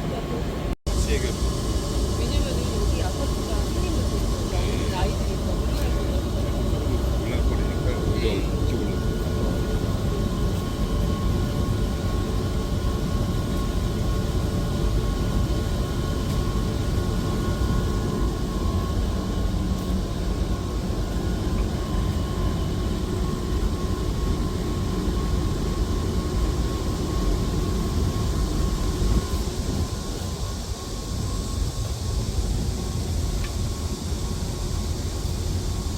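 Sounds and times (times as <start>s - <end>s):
exhaust fan whirring: 0.0s - 35.9s.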